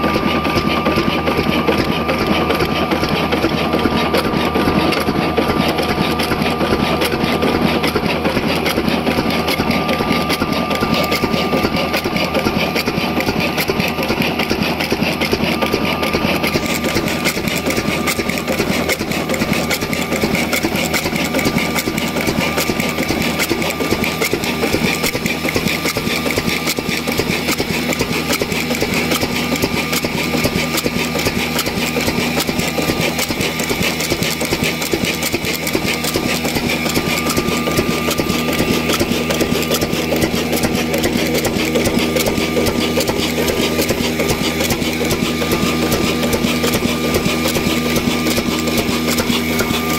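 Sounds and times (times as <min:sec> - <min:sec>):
diesel engine running with clicks: 0:00.0 - 0:49.9.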